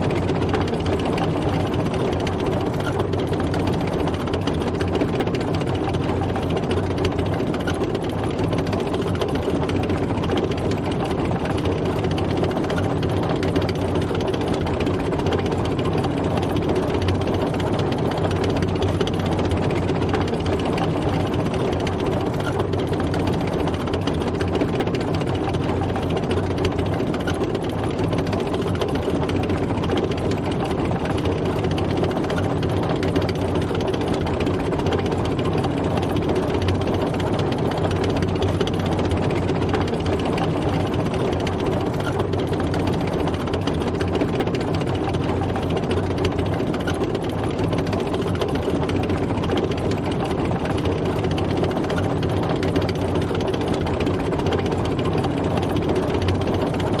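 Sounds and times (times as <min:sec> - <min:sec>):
tank engine running: 0:00.0 - 0:57.0.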